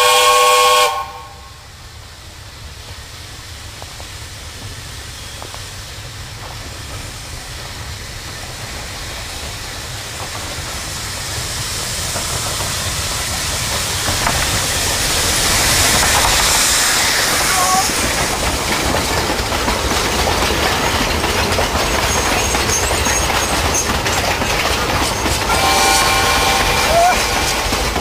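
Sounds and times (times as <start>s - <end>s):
steam locomotive hiss: 0.0s - 28.0s.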